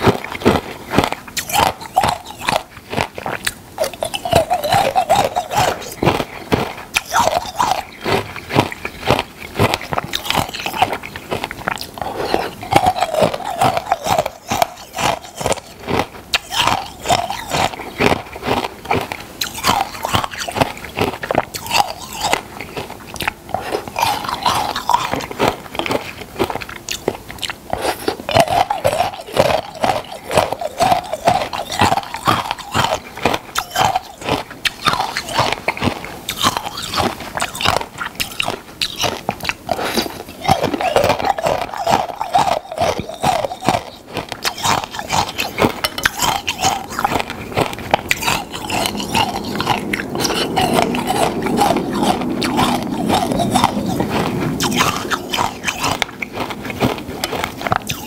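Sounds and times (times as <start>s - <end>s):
person chewing icicles: 0.0s - 58.0s.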